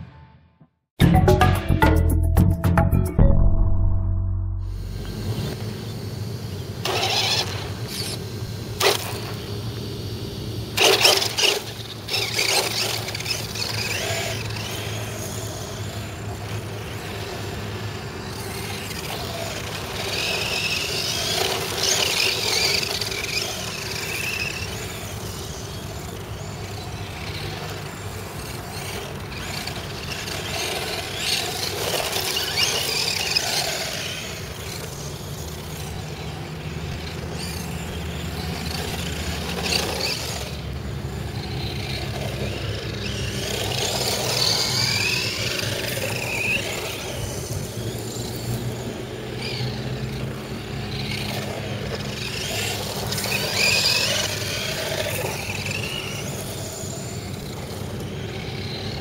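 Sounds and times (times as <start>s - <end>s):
electric motor whining: 4.7s - 59.0s.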